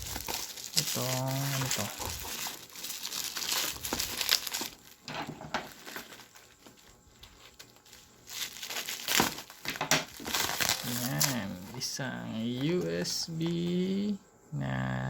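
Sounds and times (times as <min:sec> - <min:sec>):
packaging crinkling: 0:00.0 - 0:13.7.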